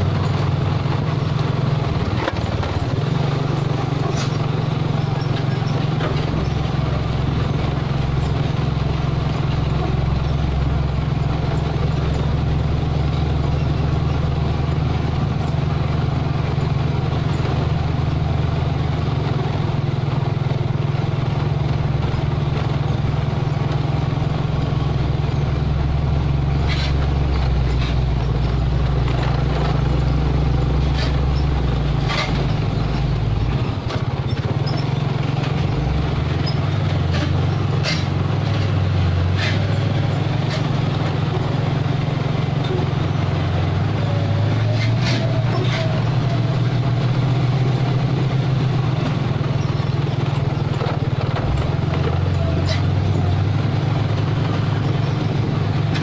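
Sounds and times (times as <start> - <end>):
diesel truck engine running: 0.0 - 56.0
sharp knocks and rattles: 0.0 - 56.0.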